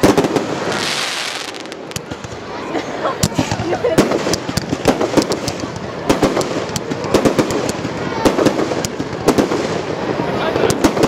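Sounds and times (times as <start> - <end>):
crowd voices: 0.0 - 11.0
firework bangs and cracks: 0.0 - 11.0.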